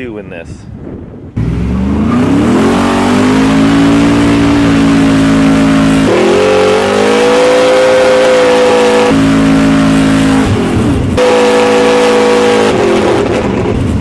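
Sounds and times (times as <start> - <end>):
engine running at high revs: 1.4 - 14.0.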